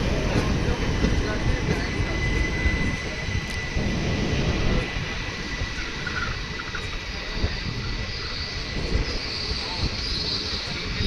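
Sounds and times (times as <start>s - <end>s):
high-pitched whine: 0.0s - 11.0s
train rumble: 0.0s - 11.0s.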